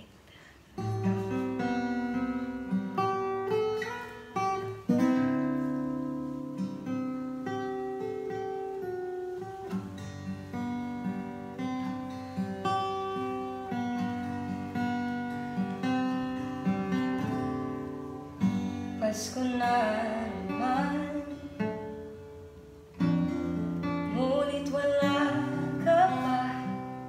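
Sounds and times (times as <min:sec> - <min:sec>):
acoustic guitar picking chords: 0:00.0 - 0:27.0.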